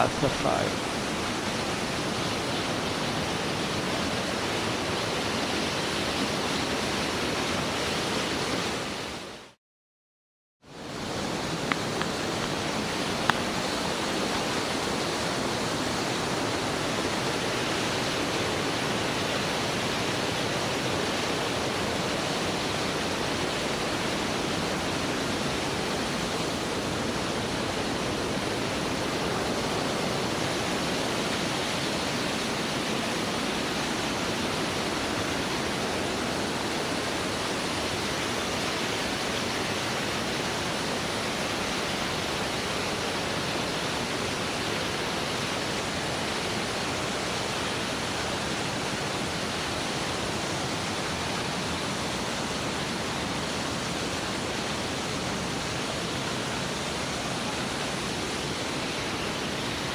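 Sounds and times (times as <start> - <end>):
waterfall rushing: 0.0 - 9.5, 10.8 - 59.9.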